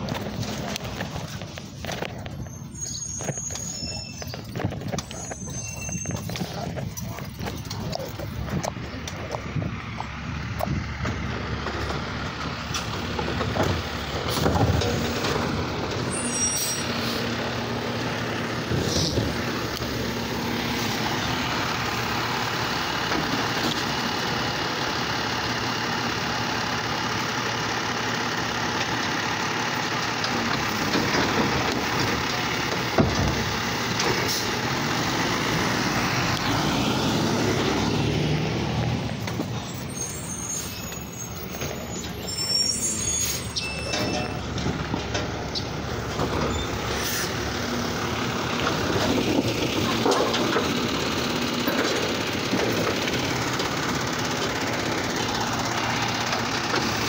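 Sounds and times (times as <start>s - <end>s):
garbage truck running: 0.0s - 57.0s.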